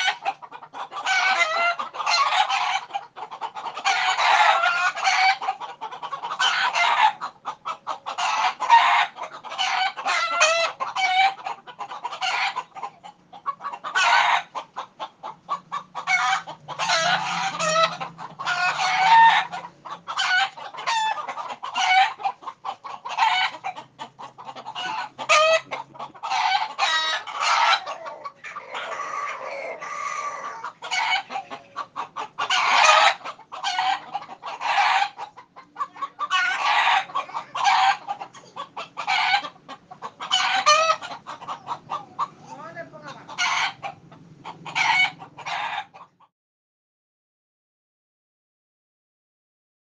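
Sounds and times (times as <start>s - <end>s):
roosters squawking in alarm: 0.0s - 46.3s.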